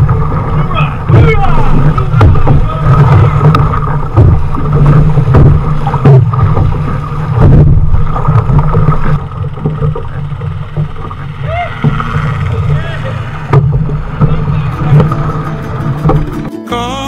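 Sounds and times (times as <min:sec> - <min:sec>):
sharp splashes: 0:00.0 - 0:16.5
wind buffeting microphone: 0:00.0 - 0:16.5
water rushing along hull: 0:00.0 - 0:16.7.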